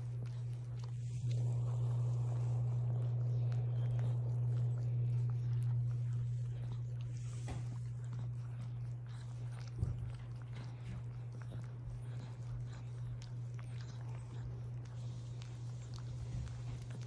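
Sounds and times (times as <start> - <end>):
dog licking mouth clicks: 0.0 - 17.0
steady low hum: 0.0 - 17.0.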